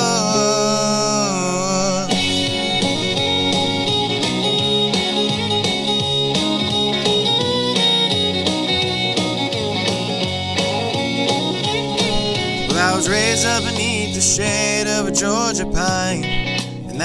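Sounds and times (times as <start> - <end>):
fiddle playing: 0.0 - 16.5
instrumental country music: 0.0 - 17.0.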